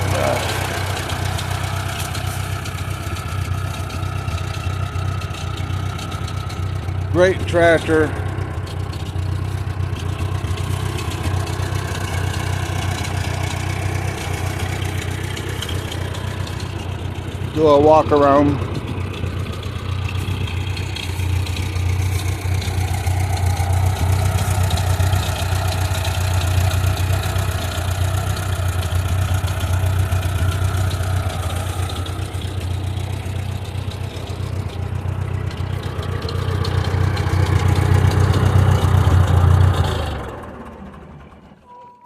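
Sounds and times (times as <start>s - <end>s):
tractor engine idling: 0.0s - 42.0s.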